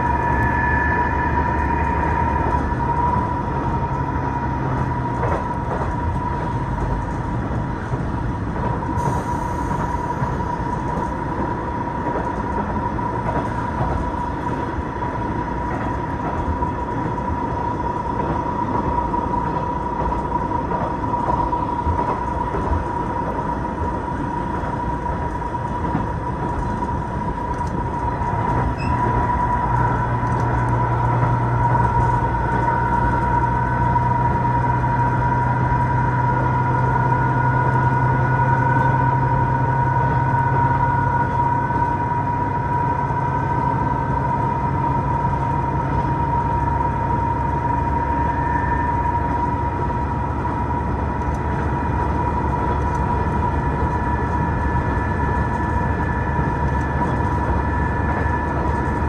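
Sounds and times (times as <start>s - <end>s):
deep drone: 0.0s - 7.5s, 17.6s - 59.0s
railcar wheels and engine rumble: 0.0s - 59.0s.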